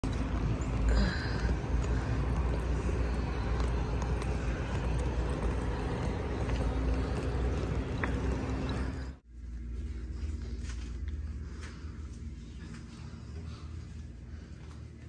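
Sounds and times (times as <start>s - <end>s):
faint constant hum: 0.0s - 15.0s
low outdoor rumble: 0.0s - 15.0s.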